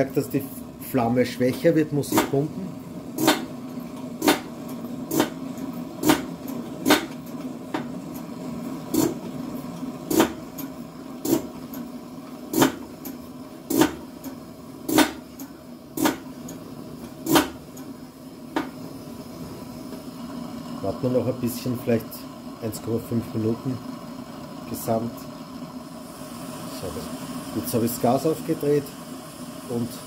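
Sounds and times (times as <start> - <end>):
stove burner flame rushing: 0.0 - 30.0.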